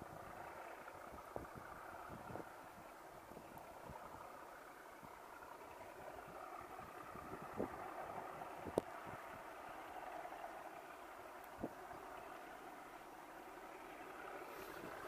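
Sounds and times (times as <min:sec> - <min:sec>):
diesel train engine running: 0:00.0 - 0:15.0.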